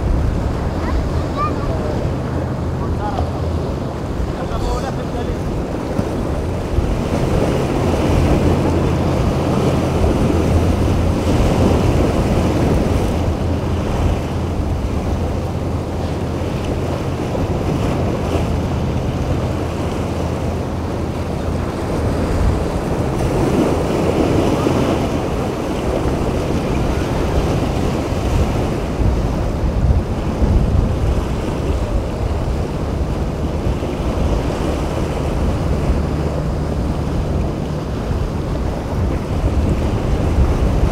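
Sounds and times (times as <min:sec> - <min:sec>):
boat engines droning: 0:00.0 - 0:40.9
waves and surf washing: 0:00.0 - 0:40.9
wind buffeting microphone: 0:00.0 - 0:40.9.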